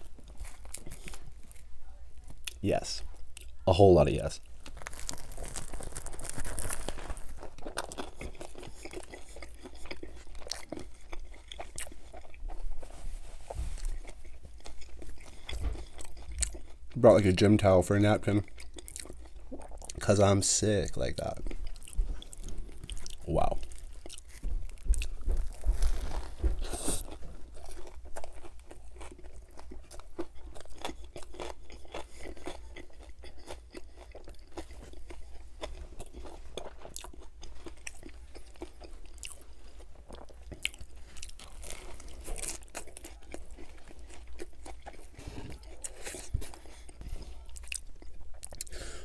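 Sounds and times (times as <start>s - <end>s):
close chewing with crunches: 0.0s - 3.7s, 4.4s - 49.0s.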